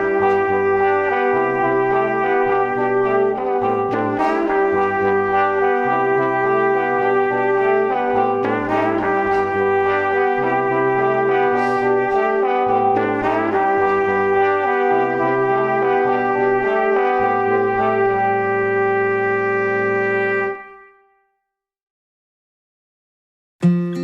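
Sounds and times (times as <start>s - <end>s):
bass line: 0.0s - 20.9s
brass-like chords: 0.0s - 21.2s.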